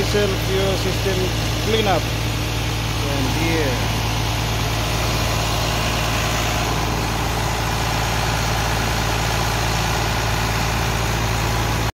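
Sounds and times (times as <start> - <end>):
diesel tractor engine idling: 0.0 - 11.9.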